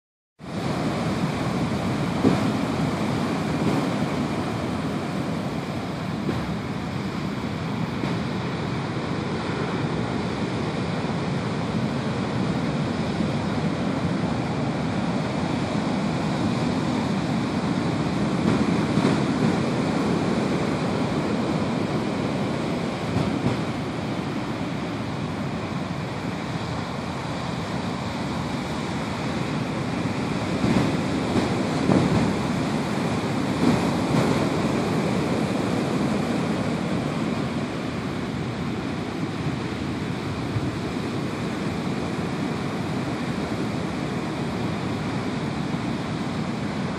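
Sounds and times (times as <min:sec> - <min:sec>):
heavy surf breaking on beach: 0:00.4 - 0:46.9.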